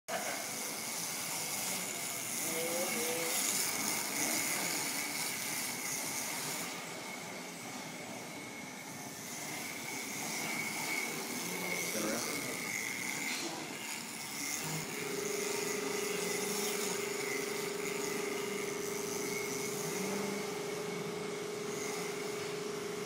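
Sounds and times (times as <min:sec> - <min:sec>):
electric motors whirring: 0:00.1 - 0:23.0.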